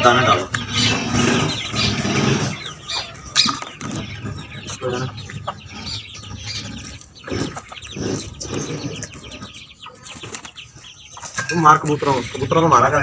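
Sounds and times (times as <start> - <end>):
chicks peeping: 0.0 - 13.0
hens clucking: 0.0 - 13.0.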